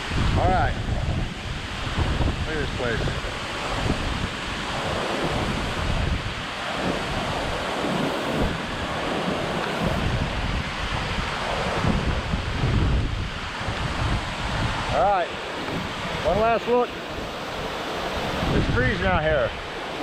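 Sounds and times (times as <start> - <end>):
waterfall rushing: 0.0 - 20.0
wind rumbling on microphone: 0.0 - 20.0.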